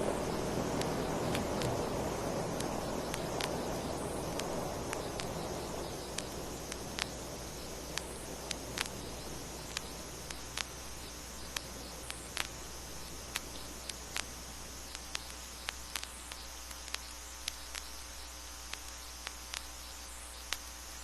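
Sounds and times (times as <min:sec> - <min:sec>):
hiss and low hum: 0:00.0 - 0:21.0
vinyl record clicks and pops: 0:00.0 - 0:21.0.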